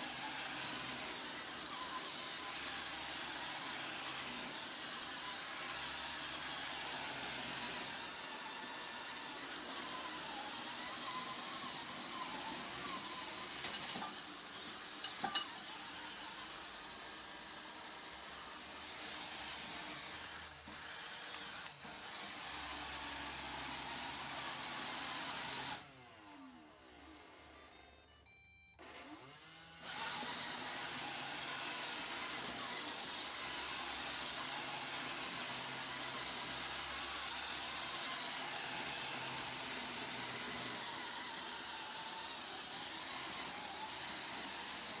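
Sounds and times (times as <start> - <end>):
robot vacuum whirring hum: 0.0 - 23.0, 25.6 - 45.0.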